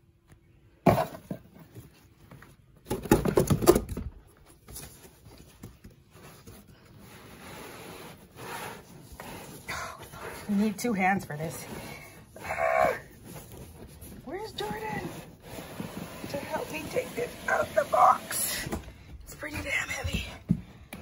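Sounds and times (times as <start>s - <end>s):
cardboard scraping and crackling: 3.4s - 20.2s.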